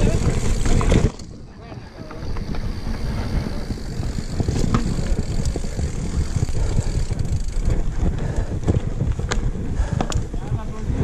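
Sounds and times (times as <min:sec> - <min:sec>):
bike rattling on stones: 0:00.0 - 0:11.0
wind rumbling on microphone: 0:00.0 - 0:11.0.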